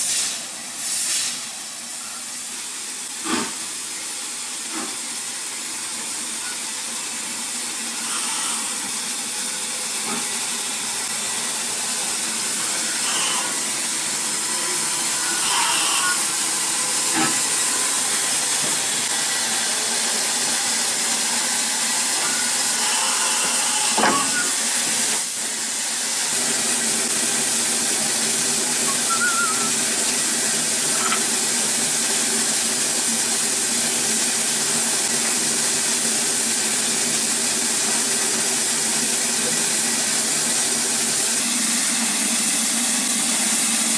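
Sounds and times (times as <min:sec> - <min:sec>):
steam hiss from locomotive: 0:00.0 - 0:43.9.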